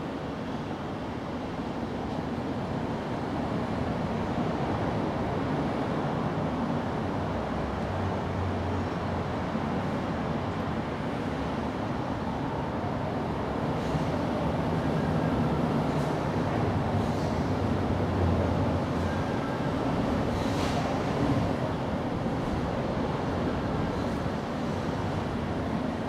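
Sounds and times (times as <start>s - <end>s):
road traffic rumble: 0.2s - 26.0s.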